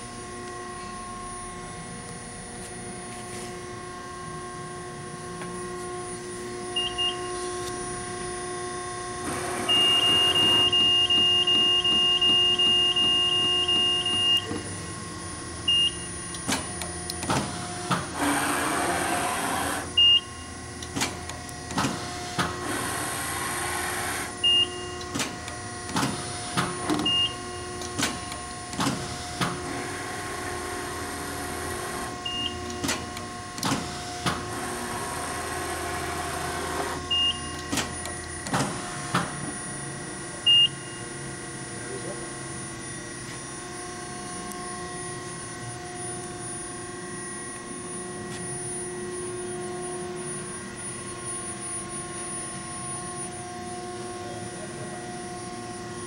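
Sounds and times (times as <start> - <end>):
hydraulic hum: 0.0 - 56.0.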